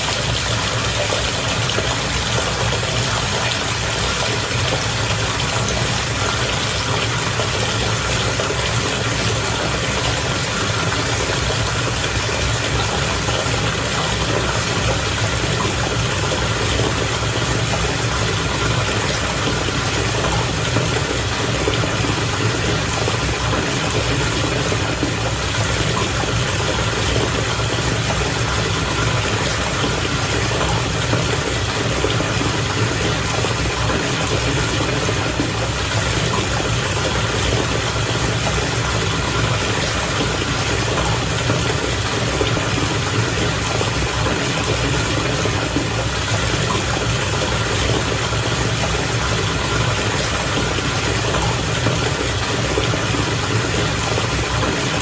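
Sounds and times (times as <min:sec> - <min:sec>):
water bubbling in a bath: 0:00.0 - 0:55.0.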